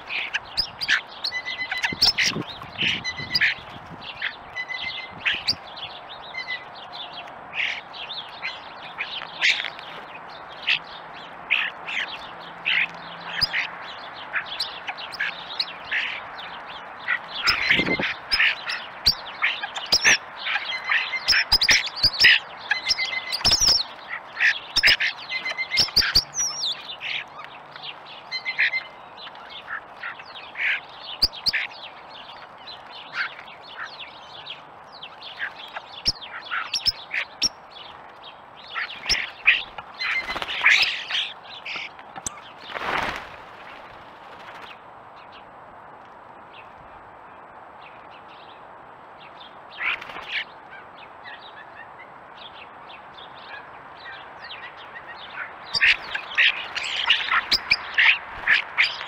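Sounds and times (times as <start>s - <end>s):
starlings chattering: 0.0s - 45.5s, 49.2s - 59.0s.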